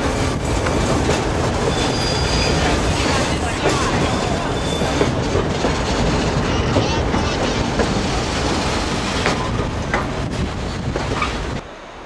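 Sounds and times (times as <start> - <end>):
train cars rumbling on rails: 0.0 - 12.0.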